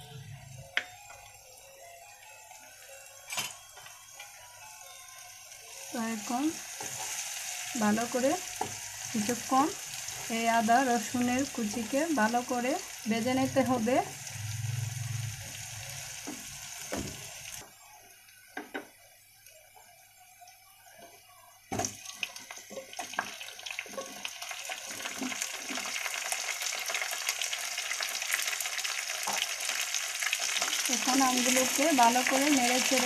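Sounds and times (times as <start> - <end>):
garlic and ginger sizzling in oil: 0.0 - 33.0.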